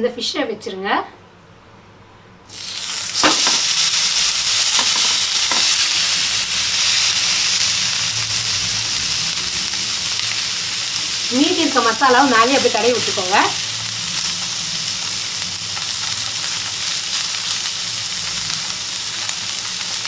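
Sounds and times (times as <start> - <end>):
fish sizzling in oiled grill pan: 2.5 - 20.0.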